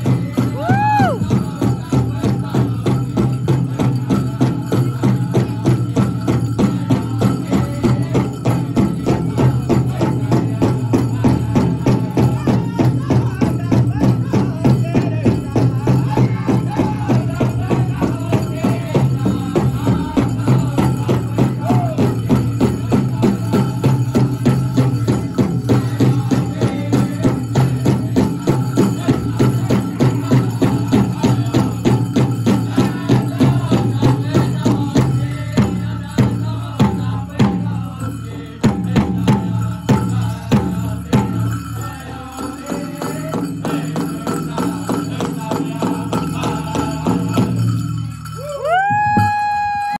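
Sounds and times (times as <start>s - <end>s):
group singing: 0.0s - 48.0s
fast steady drumbeat: 0.0s - 49.9s.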